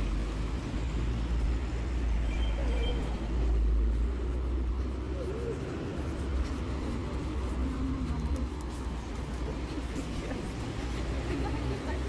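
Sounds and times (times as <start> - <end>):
low street ambience rumble: 0.0 - 12.0.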